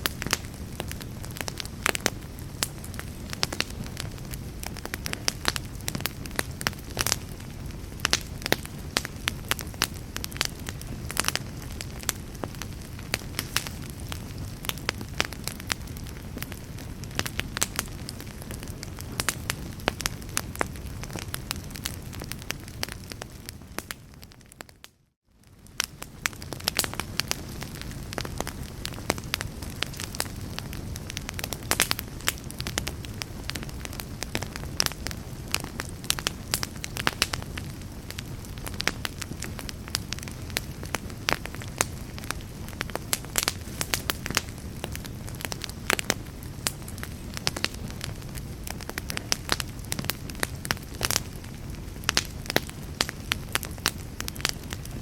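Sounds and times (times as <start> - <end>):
log fire crackling: 0.0 - 55.0.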